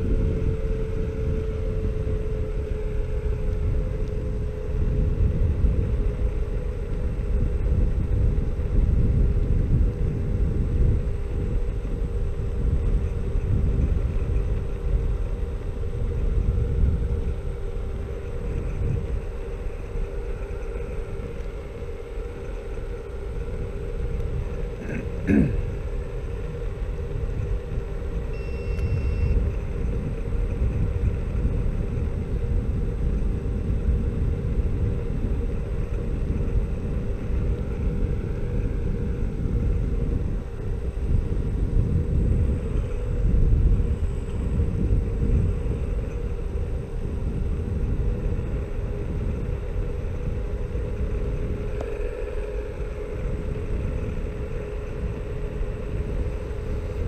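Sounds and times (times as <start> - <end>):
electric motor hum: 0.0 - 57.0
tyres rumbling on asphalt: 0.0 - 57.0
wind: 0.0 - 57.0.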